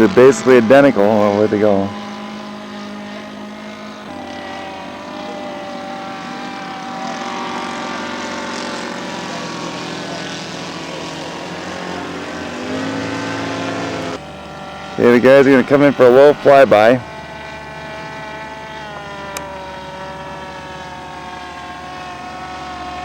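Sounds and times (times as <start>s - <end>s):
model seaplane propeller drone: 0.0s - 23.0s.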